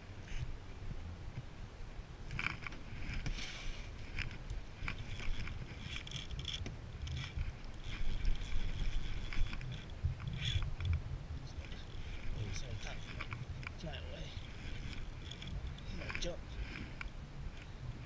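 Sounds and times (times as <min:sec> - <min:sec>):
steady low rumble: 0:00.0 - 0:18.0
metallic clicks and scrapes: 0:02.3 - 0:17.7.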